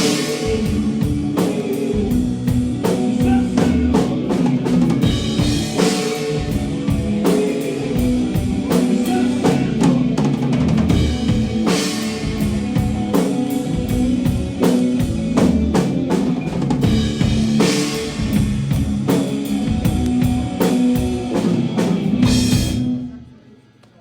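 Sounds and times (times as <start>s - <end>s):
live rock band playing: 0.0s - 23.2s.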